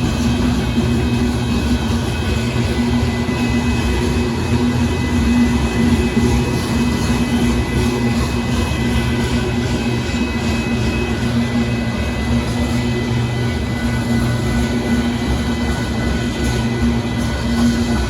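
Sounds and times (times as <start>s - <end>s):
train cars rumbling on rails: 0.0s - 18.0s.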